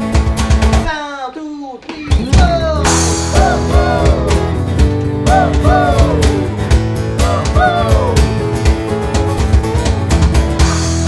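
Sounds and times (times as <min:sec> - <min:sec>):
bass guitar: 0:00.0 - 0:00.9, 0:02.1 - 0:11.0
drums: 0:00.0 - 0:11.0
band playing pop-rock song: 0:02.1 - 0:11.0
electric guitar: 0:02.1 - 0:11.0.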